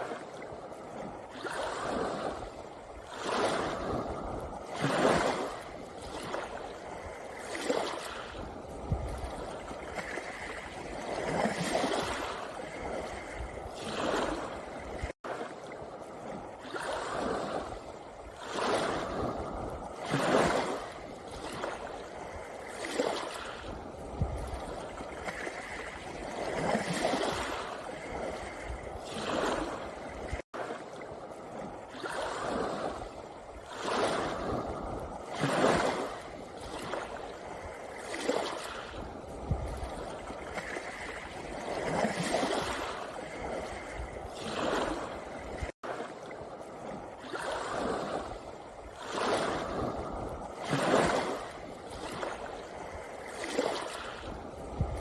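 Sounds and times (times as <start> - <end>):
waves washing over pebbles: 0.0 - 55.0.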